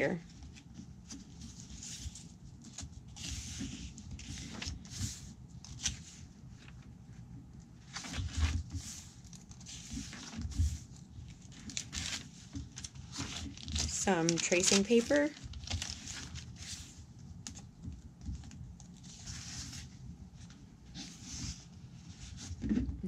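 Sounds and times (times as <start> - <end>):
paper pages rustling: 0.3 - 6.9, 7.8 - 22.8
soft thumps of pages flipping: 0.3 - 6.9, 7.5 - 15.0, 15.6 - 23.0.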